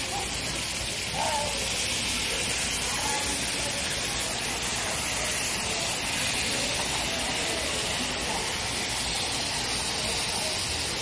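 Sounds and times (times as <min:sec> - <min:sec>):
faint crowd voices: 0:00.0 - 0:11.0
water jets spraying: 0:00.0 - 0:11.0.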